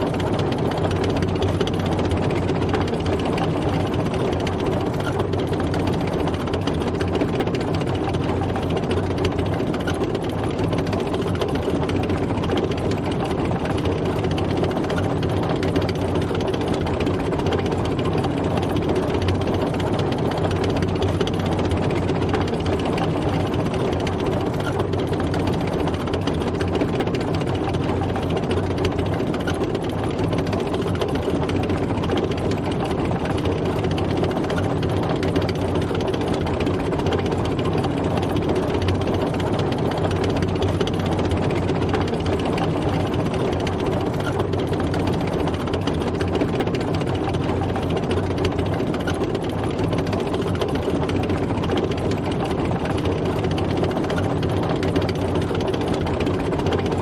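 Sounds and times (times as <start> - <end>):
tank engine running: 0.0 - 57.0.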